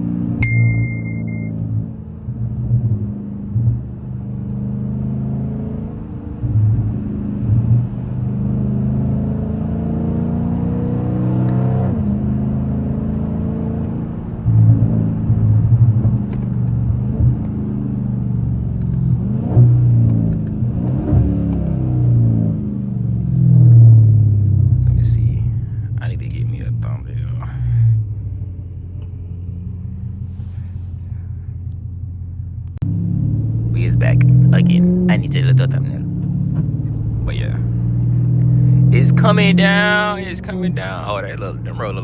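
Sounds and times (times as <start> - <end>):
car engine rumbling while driving: 0.0 - 42.0.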